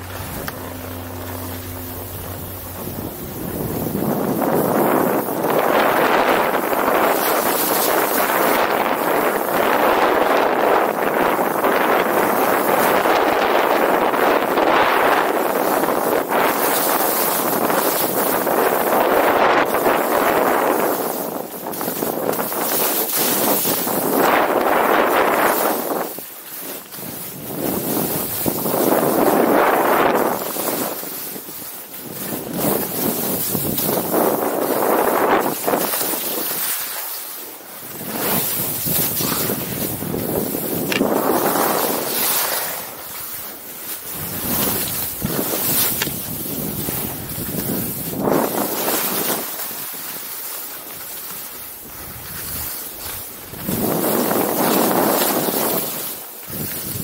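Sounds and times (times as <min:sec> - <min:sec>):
wind buffeting microphone: 0:00.0 - 0:36.9, 0:37.6 - 0:50.0, 0:51.7 - 0:57.0
skis scraping on snow: 0:00.0 - 0:57.0.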